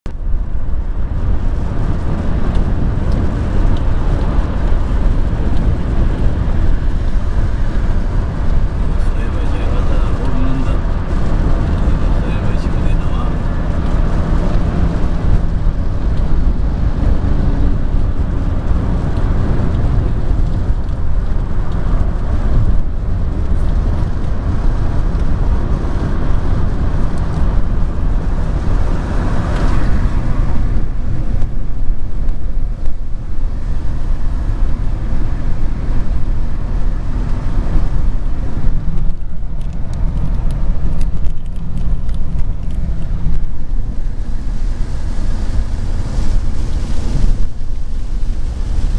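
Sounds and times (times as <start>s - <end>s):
traffic on a wet road: 0.1s - 48.9s.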